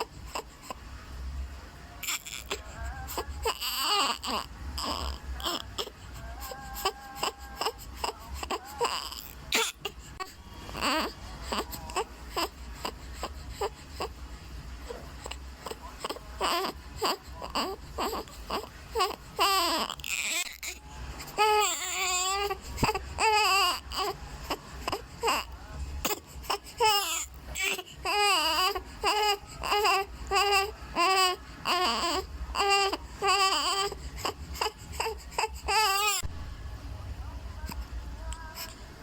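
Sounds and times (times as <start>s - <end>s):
baby crying: 2.0s - 14.2s, 14.9s - 36.3s.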